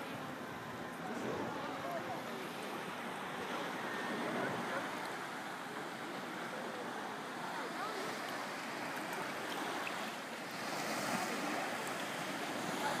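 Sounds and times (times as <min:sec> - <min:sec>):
water lapping and sloshing: 0:00.0 - 0:13.0.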